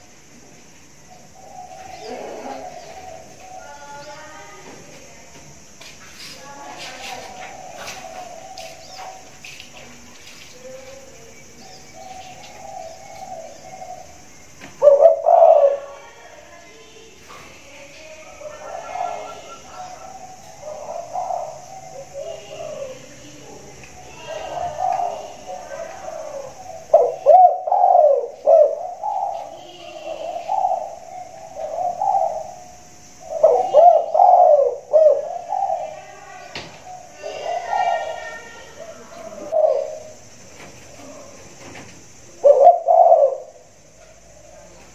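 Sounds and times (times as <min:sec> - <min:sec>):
dove cooing: 0:00.0 - 0:05.8, 0:06.4 - 0:44.9.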